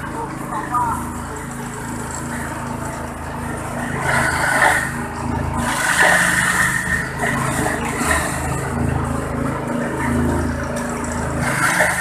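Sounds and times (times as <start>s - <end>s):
shredder running: 0.0s - 12.0s.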